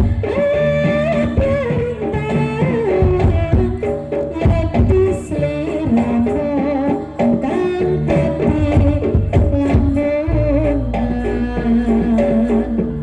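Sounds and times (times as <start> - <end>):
hand drum strokes: 0.0 - 13.0
sustained melody line: 0.0 - 13.0.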